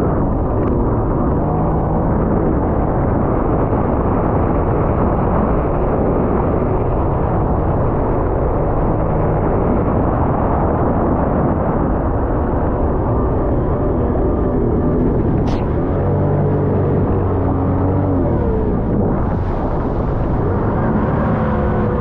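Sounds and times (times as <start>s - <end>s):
wind and water rushing over microphone: 0.0s - 22.0s
watercraft engine: 0.1s - 22.0s.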